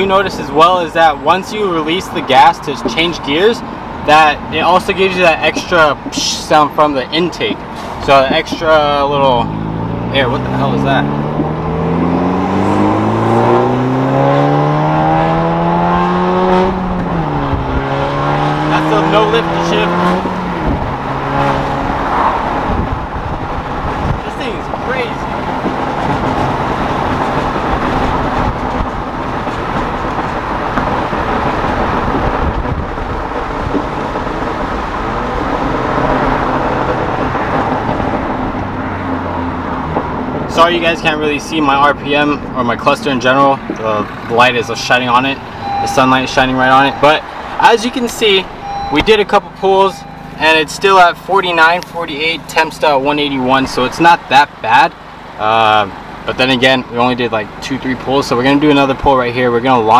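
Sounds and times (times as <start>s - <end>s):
road and wind noise: 0.0s - 59.9s
car engine revving under full throttle: 8.0s - 58.8s.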